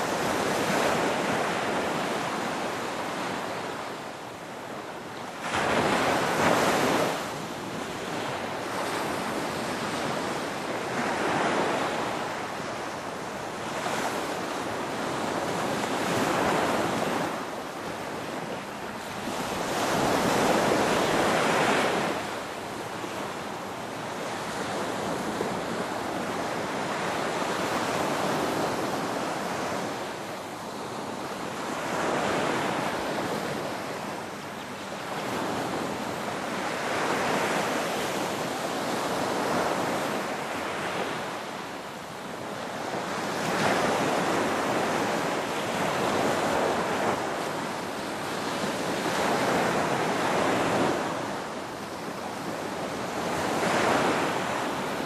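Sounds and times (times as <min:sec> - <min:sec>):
ocean waves: 0:00.0 - 0:55.0.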